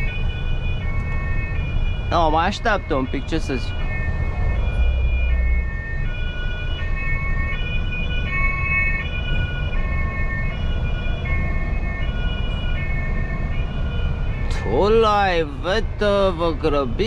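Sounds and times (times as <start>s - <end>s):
truck cab drone: 0.0s - 17.0s
two-tone police siren: 0.0s - 17.0s.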